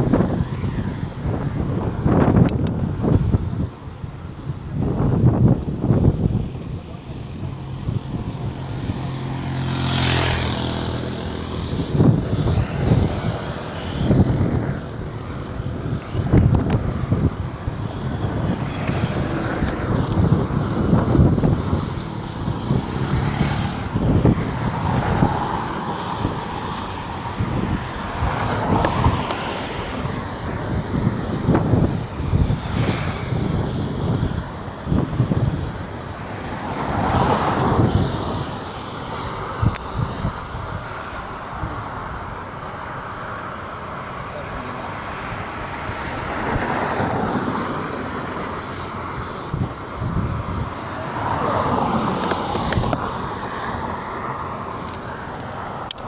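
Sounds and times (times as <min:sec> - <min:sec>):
low rumbles and gusts: 0:00.0 - 0:43.3, 0:44.3 - 0:56.0
engine hum: 0:00.0 - 0:56.0
vehicles passing on highway: 0:00.0 - 0:56.0.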